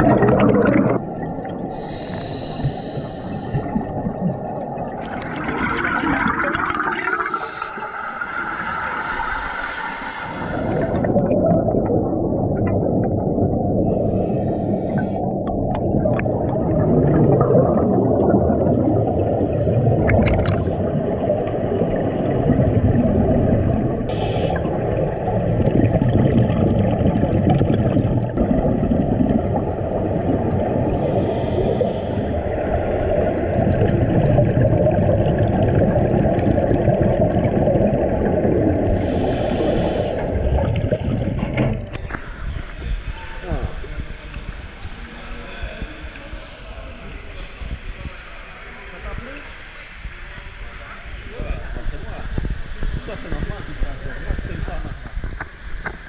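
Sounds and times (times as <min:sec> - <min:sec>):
exhaled bubbles hissing: 0:00.0 - 0:56.0
underwater gurgling and rumble: 0:00.0 - 0:56.0.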